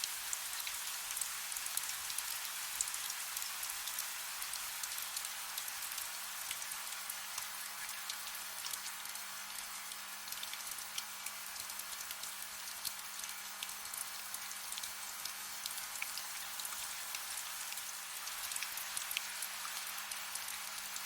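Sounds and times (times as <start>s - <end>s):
soft steady rain: 0.0s - 21.0s.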